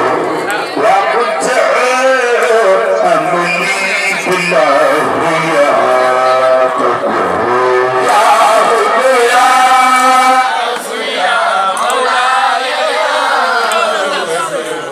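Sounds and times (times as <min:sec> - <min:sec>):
men chanting into microphones: 0:00.0 - 0:14.9.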